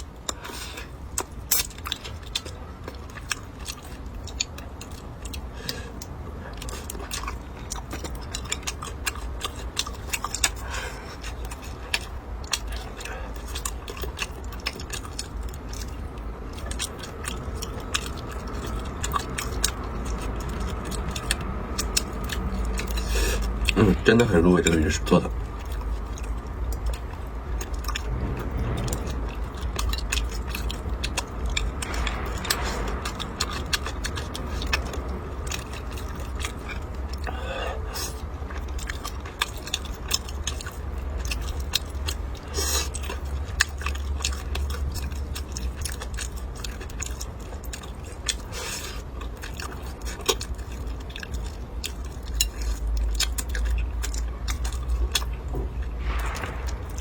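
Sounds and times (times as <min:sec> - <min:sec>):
person chewing with mouth clicks: 0:00.0 - 0:57.0
steady low hum: 0:00.0 - 0:57.0.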